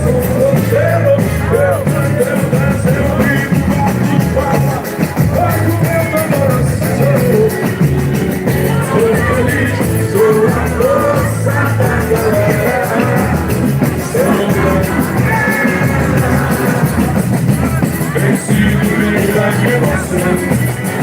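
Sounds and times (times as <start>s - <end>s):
amplified band playing: 0.0s - 21.0s
person singing: 0.0s - 21.0s.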